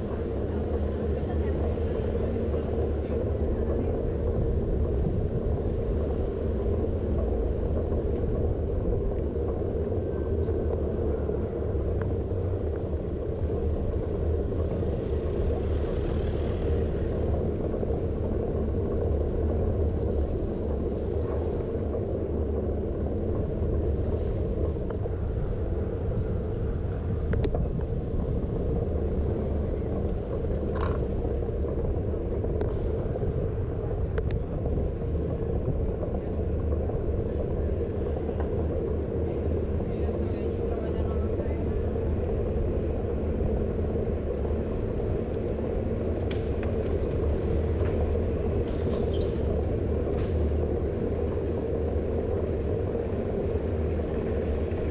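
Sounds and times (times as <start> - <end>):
bicycle tyres on stone paving: 0.0 - 54.9
wind on microphone: 0.0 - 54.9.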